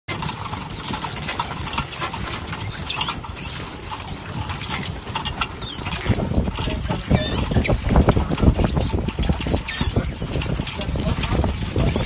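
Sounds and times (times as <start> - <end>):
line hauling over rotating rollers: 0.1 - 12.0
water splashing off line: 0.1 - 12.0.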